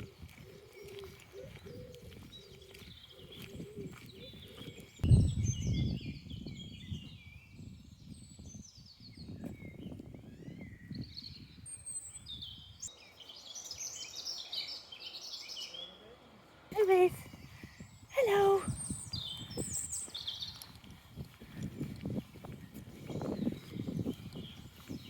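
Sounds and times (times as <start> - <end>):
small birds chirping and trilling: 0.0 - 25.0.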